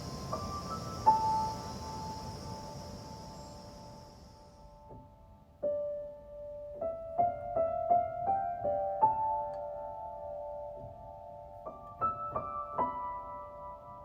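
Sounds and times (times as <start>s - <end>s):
soft piano melody: 0.0s - 14.0s.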